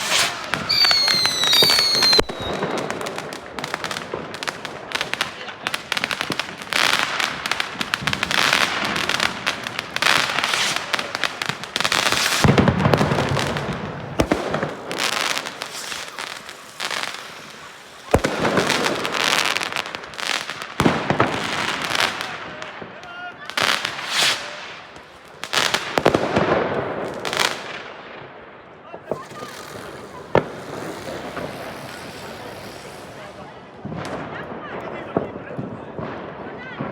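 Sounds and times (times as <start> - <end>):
fireworks crackling: 0.0 - 36.8
fireworks bangs: 0.0 - 36.9.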